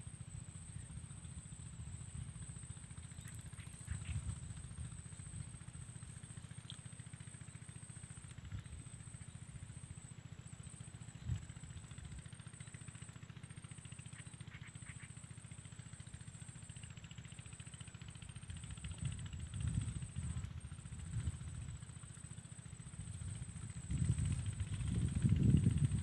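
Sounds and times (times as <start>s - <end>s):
faint engine chugging: 0.0s - 26.0s.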